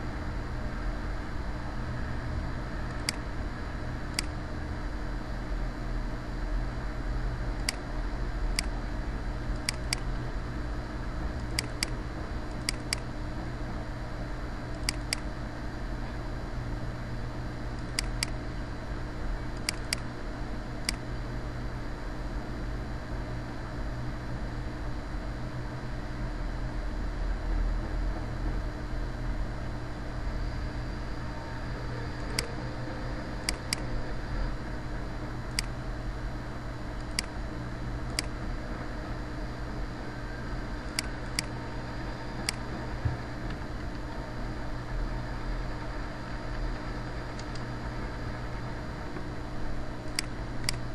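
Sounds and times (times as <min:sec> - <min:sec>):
low hum and hiss: 0:00.0 - 0:50.9.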